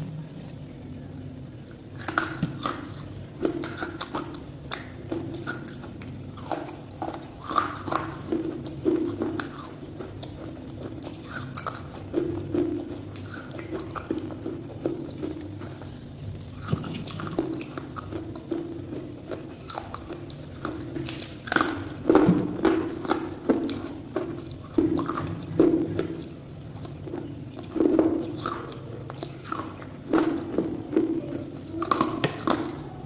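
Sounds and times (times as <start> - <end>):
crunchy chewing: 0.4 - 33.0.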